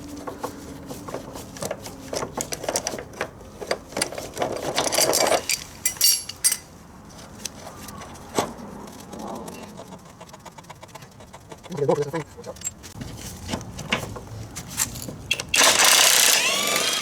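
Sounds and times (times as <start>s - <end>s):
hand tools clicking and clanking: 0.2s - 17.0s.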